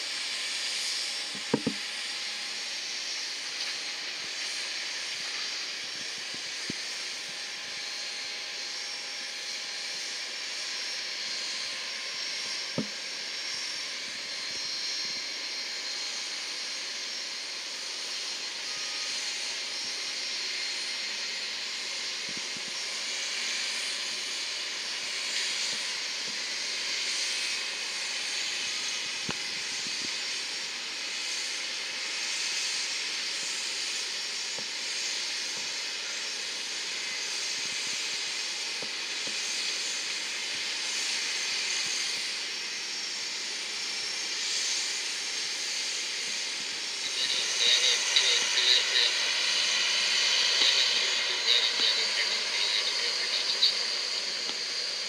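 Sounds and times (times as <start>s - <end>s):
jet engines idling whine and hiss: 0.0s - 55.0s.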